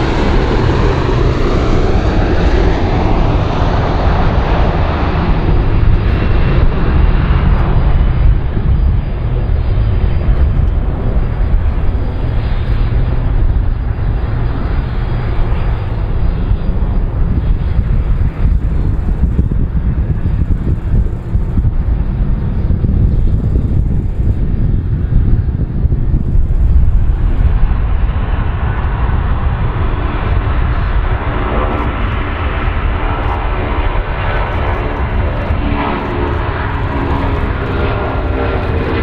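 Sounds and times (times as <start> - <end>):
aircraft engines rumbling: 0.0 - 39.0.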